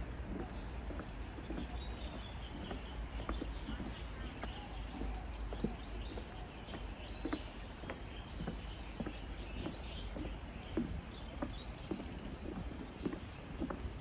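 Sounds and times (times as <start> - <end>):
footsteps on pavement: 0.0 - 14.0
low city rumble: 0.0 - 14.0.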